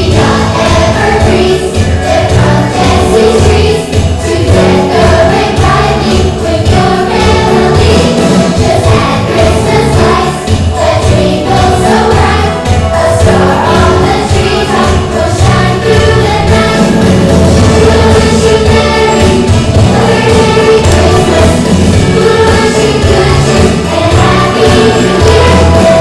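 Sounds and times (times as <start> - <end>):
choir singing: 0.0 - 26.0
instrumental accompaniment: 0.0 - 26.0.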